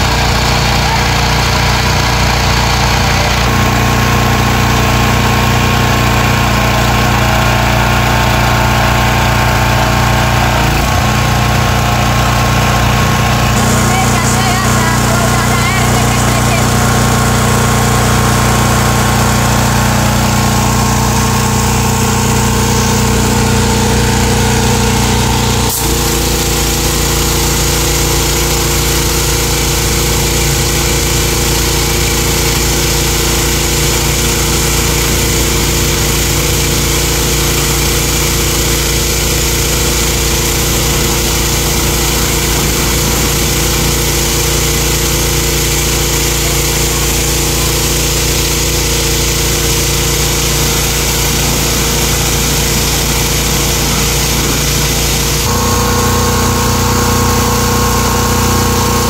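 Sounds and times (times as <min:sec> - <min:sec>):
pressure washer engine running: 0:00.0 - 0:59.0.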